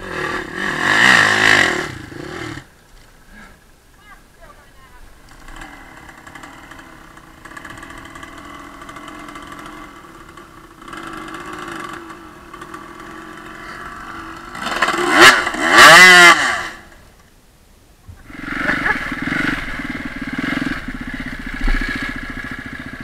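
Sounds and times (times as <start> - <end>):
dirt bike engine: 0.0 - 3.6, 4.3 - 17.2, 18.2 - 23.0.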